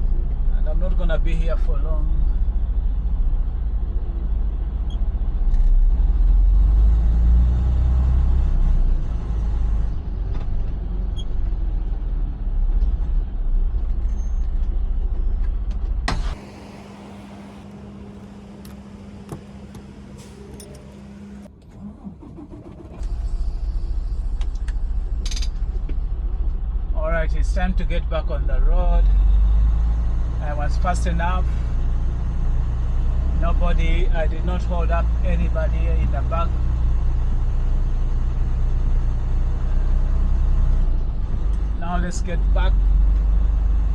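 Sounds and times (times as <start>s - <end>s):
diesel truck engine rumbling: 0.0s - 43.9s.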